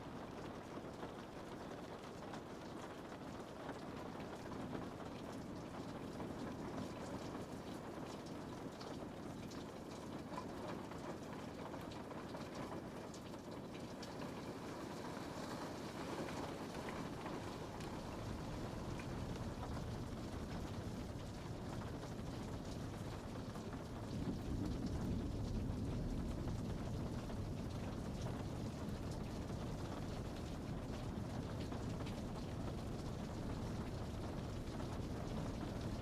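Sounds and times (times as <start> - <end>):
raindrops tapping on glass: 0.4 - 36.0
rain hiss: 3.5 - 36.0.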